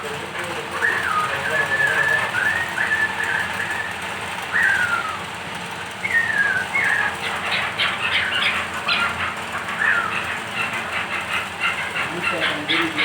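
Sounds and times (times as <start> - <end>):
partridge whistled calls: 0.7 - 5.4, 6.0 - 13.0.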